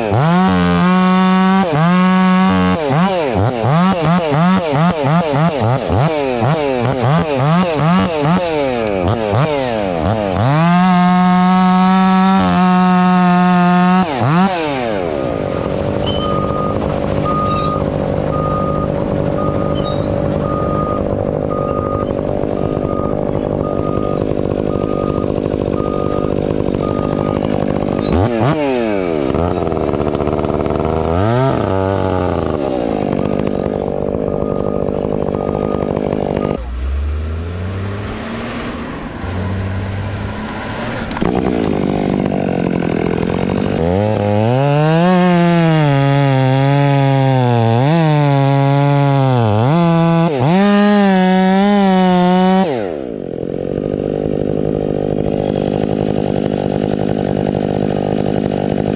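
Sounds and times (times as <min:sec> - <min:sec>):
chainsaw revving and idling: 0:00.0 - 0:58.9.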